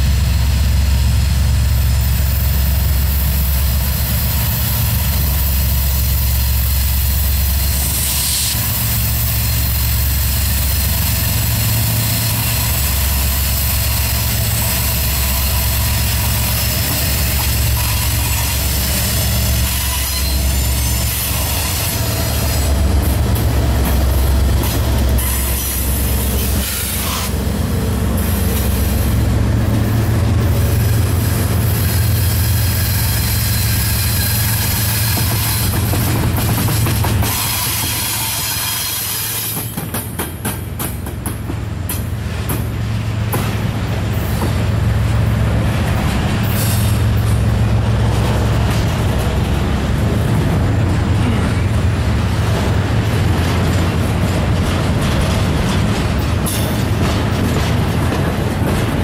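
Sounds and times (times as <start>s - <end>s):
diesel locomotive engines throbbing: 0.0s - 59.0s
freight cars rolling on rails: 0.0s - 59.0s.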